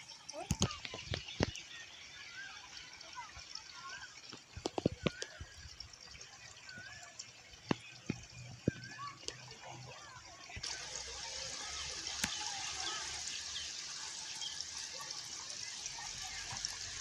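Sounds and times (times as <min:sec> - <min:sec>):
flowing stream water: 0:00.0 - 0:17.0
sharp drip-like clicks: 0:00.0 - 0:17.0
songbirds chirping: 0:00.0 - 0:17.0.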